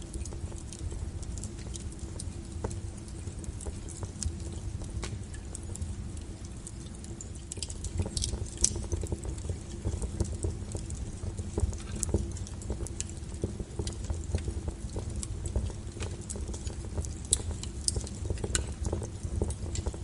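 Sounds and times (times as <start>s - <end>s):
firewood crackling and snapping: 0.0s - 20.0s
low rumble of flames: 0.0s - 20.0s.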